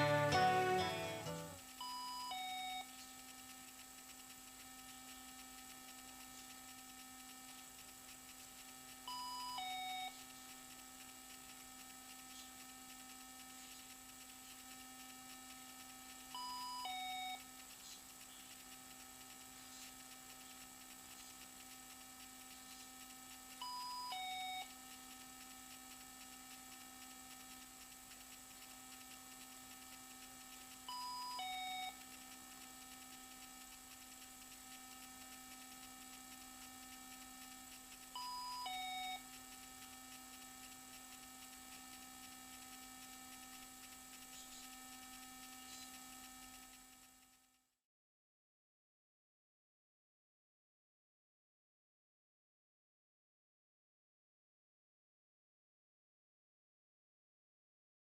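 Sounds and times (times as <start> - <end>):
steady low hum: 0.0 - 47.5.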